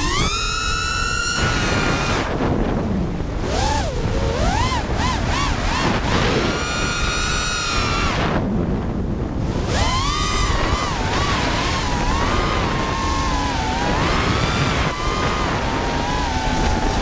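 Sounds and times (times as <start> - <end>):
drone motors whining: 0.0 - 17.0
wind on microphone: 0.0 - 17.0.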